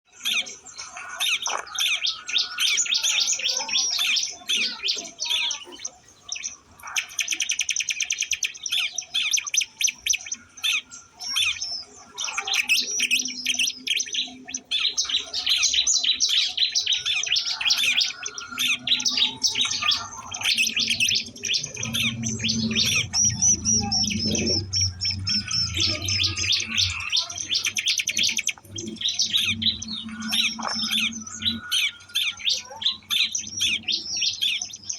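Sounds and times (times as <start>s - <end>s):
birds chirping in high trills: 0.1s - 34.9s.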